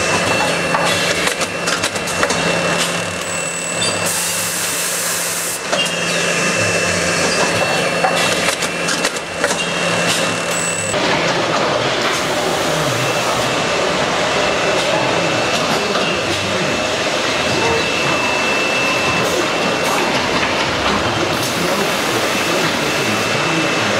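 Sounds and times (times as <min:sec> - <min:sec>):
high-pitched whine: 0:00.0 - 0:23.9
machinery clatter: 0:00.0 - 0:23.9.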